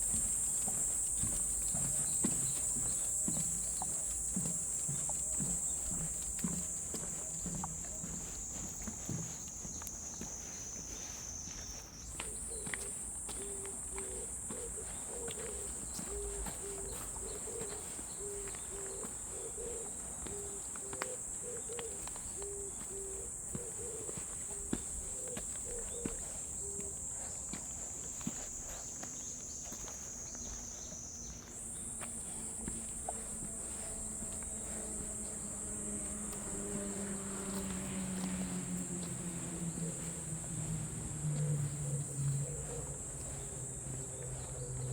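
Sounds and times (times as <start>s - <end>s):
cicadas buzzing: 0.0s - 44.9s
light footsteps: 0.0s - 44.9s.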